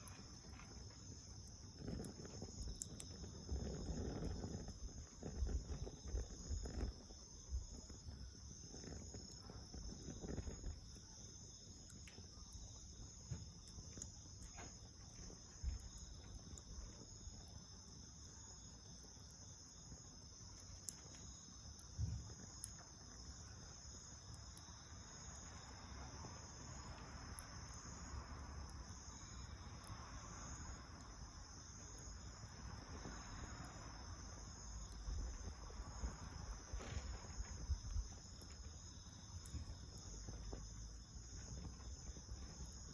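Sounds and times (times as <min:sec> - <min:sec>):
insects chirring: 0:00.0 - 0:42.9
small fire popping and hissing: 0:00.0 - 0:42.9.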